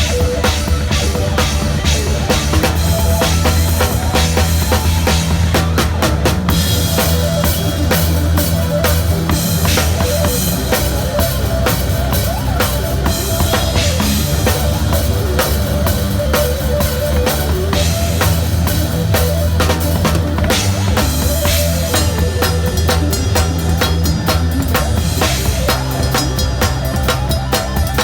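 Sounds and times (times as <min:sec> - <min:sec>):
low bass notes: 0:00.0 - 0:28.0.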